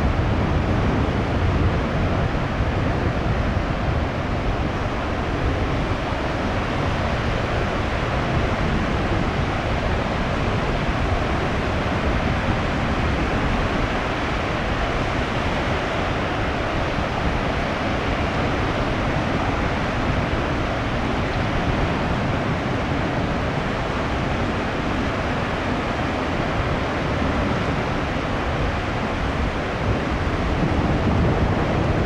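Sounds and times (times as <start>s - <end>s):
wind: 0.0s - 32.0s.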